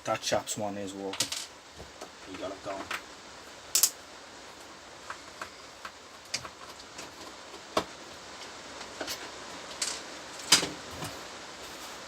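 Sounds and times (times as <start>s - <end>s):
rain on a roof: 0.9s - 12.0s.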